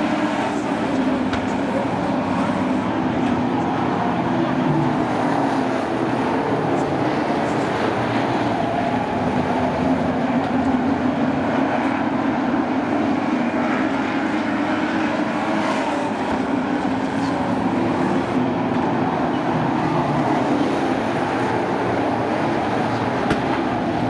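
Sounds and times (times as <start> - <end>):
many race truck engines droning: 0.0 - 24.0.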